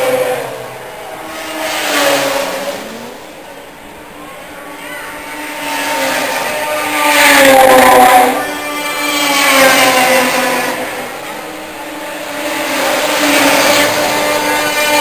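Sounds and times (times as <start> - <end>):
snowmobile engines passing at high revs: 0.0 - 15.0.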